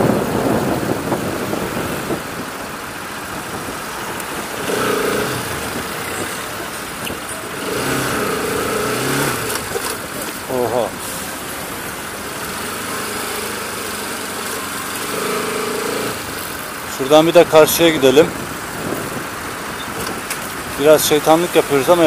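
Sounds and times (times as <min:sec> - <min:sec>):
wind rushing over microphone: 0:00.0 - 0:12.7, 0:15.2 - 0:22.0
motorcycle engine under way: 0:00.0 - 0:22.0.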